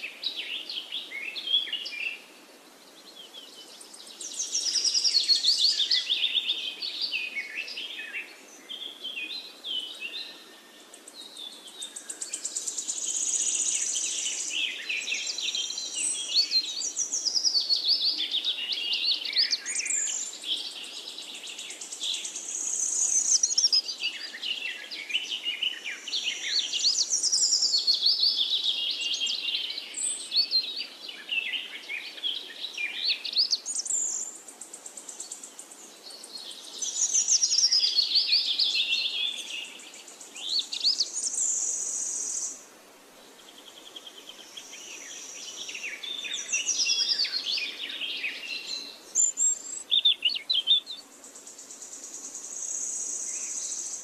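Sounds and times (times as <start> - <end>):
birds singing: 0.0 - 42.6, 43.2 - 54.0
faint background hiss: 0.0 - 54.0.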